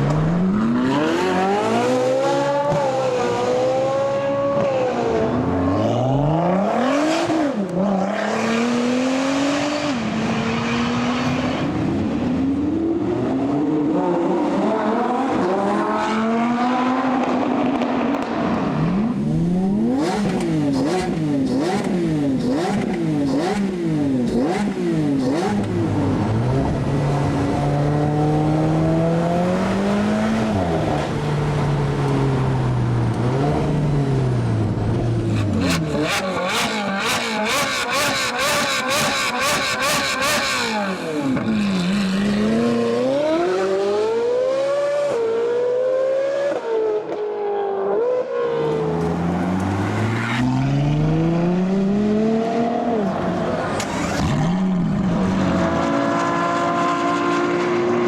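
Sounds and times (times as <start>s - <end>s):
car accelerating: 0.0s - 58.0s
car engines revving: 0.0s - 58.0s.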